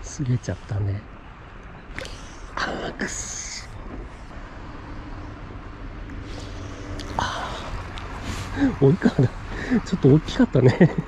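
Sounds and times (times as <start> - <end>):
distant engine hum: 0.0 - 11.0.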